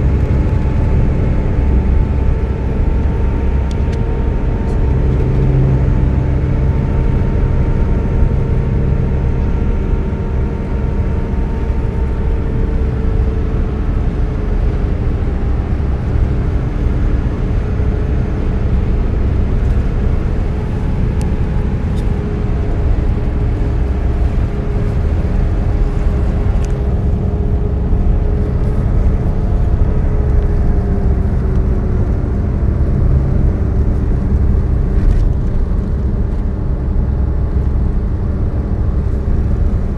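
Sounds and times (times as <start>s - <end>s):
car road noise from cabin: 0.0s - 39.9s.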